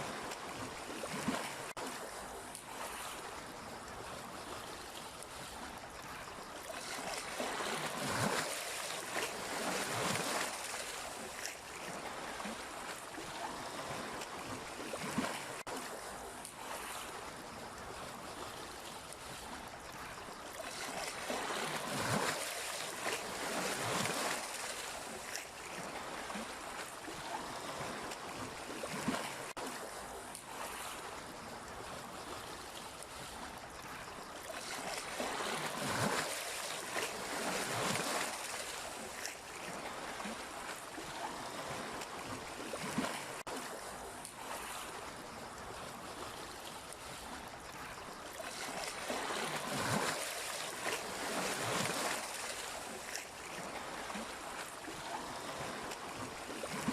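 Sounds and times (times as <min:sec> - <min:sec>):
sea waves breaking: 0:00.0 - 0:56.9.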